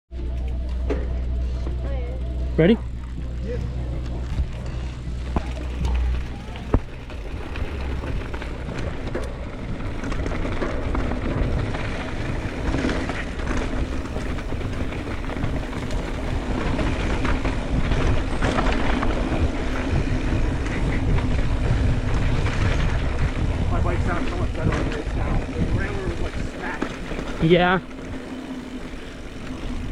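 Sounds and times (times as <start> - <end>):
bike clicks and rattles: 0.1 - 29.9
wind and tyre noise: 0.1 - 29.9.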